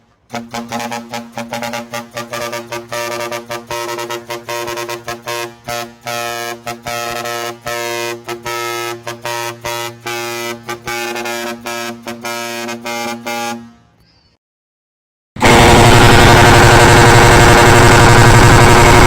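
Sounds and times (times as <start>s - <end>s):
air horn blasts: 0.0s - 14.0s, 15.4s - 19.0s.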